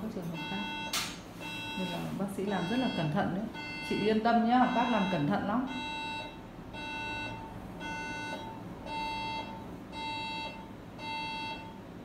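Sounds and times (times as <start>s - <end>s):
medical device beeping: 0.2s - 11.8s.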